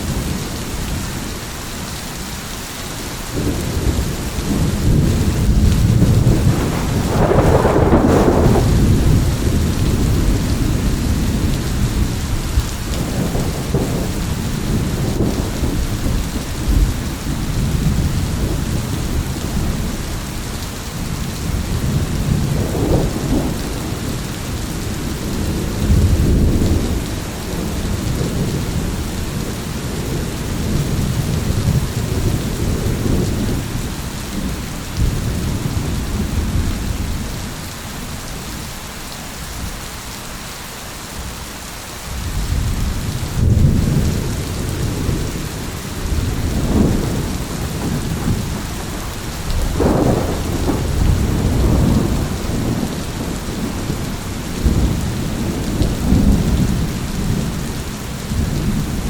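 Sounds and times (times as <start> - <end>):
steady rain falling: 0.0 - 59.0
rolling thunder rumbling: 3.4 - 38.7, 42.1 - 59.0.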